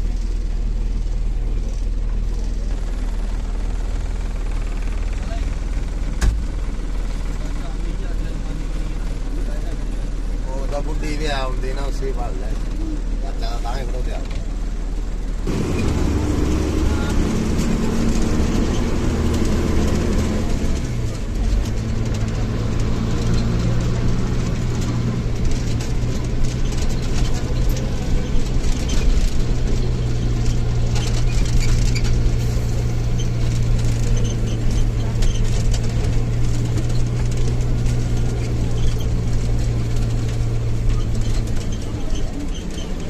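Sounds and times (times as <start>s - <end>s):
bus engine droning: 0.0s - 43.0s.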